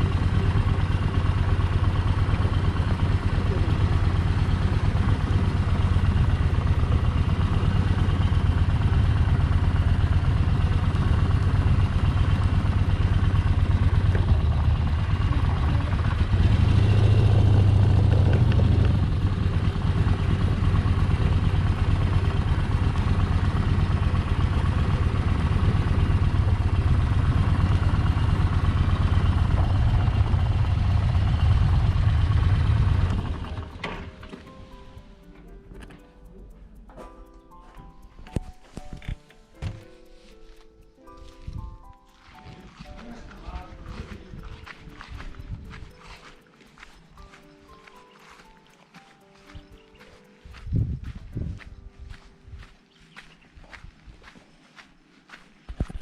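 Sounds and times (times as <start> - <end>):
motorcycle engine running: 0.0 - 36.0, 37.8 - 56.0.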